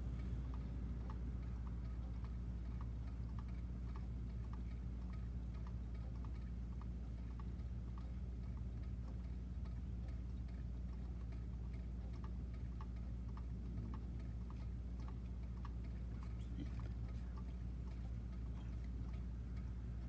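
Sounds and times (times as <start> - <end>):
faint regular ticking: 0.0 - 20.0
low electrical hum: 0.0 - 20.0.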